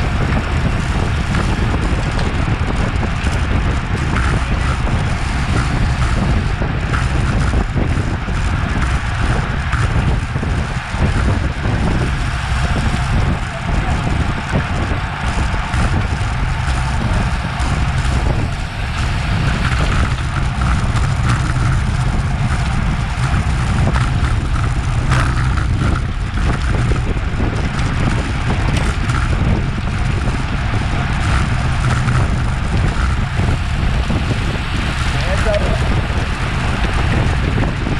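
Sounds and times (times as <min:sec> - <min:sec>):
bicycle tyre and road noise: 0:00.0 - 0:37.9
wind buffeting microphone: 0:00.0 - 0:37.9.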